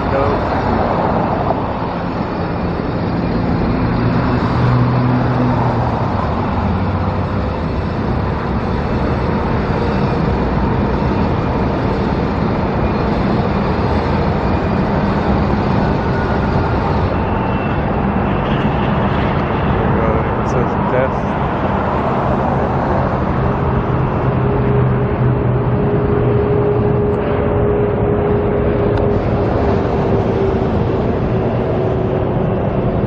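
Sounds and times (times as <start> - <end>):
passing vehicle engine hum: 0.0 - 33.0
road traffic noise: 0.0 - 33.0.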